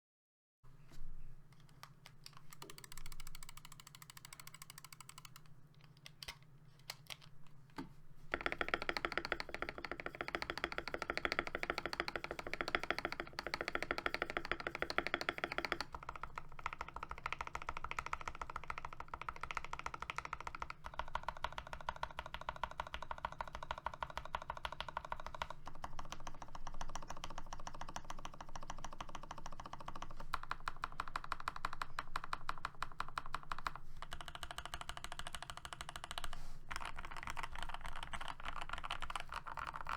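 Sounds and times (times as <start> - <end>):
mechanical keyboard typing: 1.6 - 7.3, 8.3 - 39.9.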